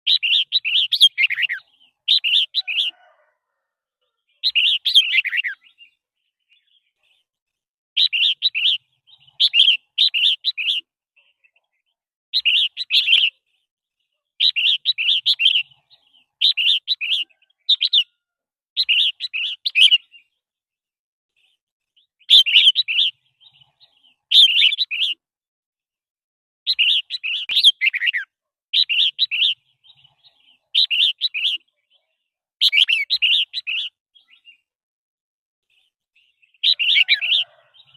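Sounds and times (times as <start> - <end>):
bird singing warbled phrases: 0.0 - 20.6, 21.3 - 25.2, 26.6 - 34.8, 35.6 - 37.9.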